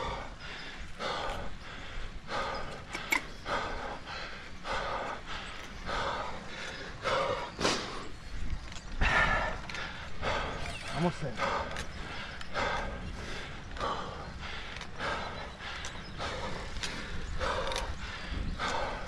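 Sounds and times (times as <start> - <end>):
person breathing hard: 0.0 - 19.0.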